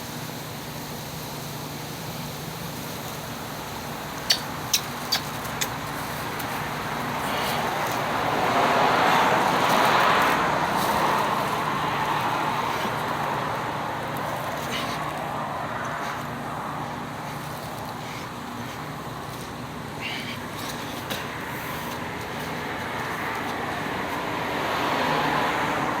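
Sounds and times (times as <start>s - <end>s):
road vehicle passing by: 4.7s - 26.0s.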